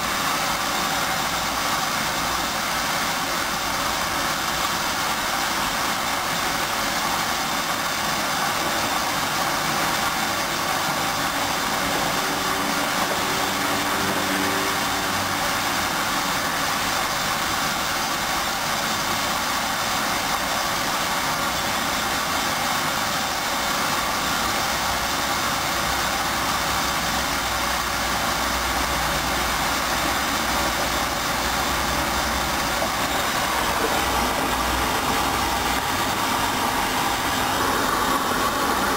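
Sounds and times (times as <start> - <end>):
washing machine whirring: 0.0 - 38.9.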